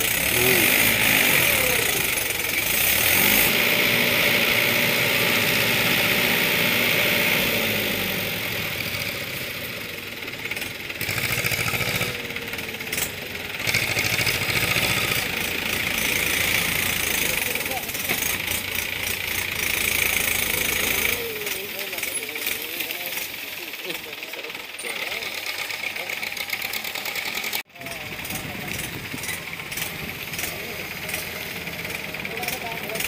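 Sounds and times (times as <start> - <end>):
tractor diesel engine under load: 0.0 - 33.0.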